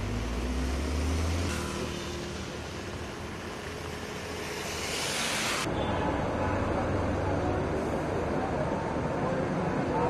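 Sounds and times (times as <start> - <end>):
vehicles on wet road: 0.0 - 10.0.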